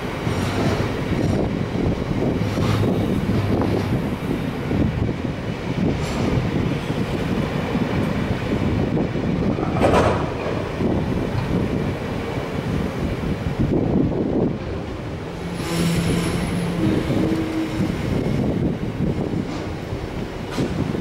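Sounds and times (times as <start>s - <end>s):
freight train wheels rumbling on rail: 0.0s - 21.0s.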